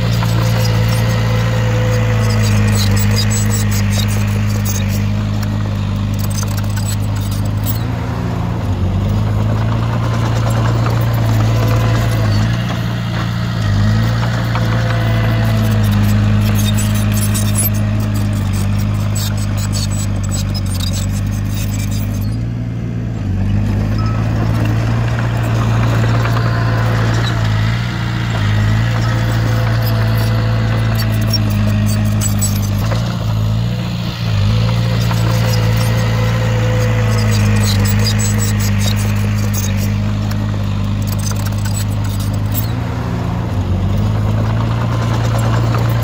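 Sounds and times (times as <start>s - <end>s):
heavy diesel engine droning: 0.0s - 46.0s.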